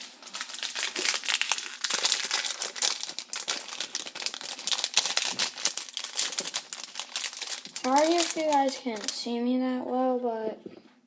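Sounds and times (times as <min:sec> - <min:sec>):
plastic wrapper crinkling: 0:00.0 - 0:09.4.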